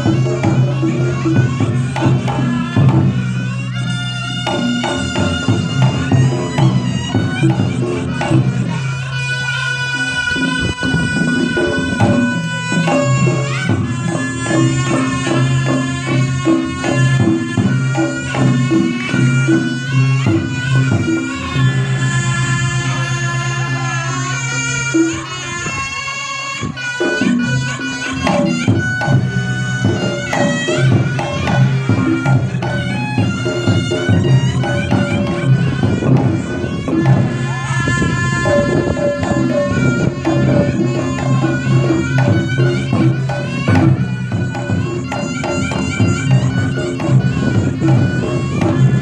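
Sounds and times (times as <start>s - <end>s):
drums and tuned gongs beat: 0.0s - 49.0s
shrill reedy shawm melody: 0.0s - 49.0s.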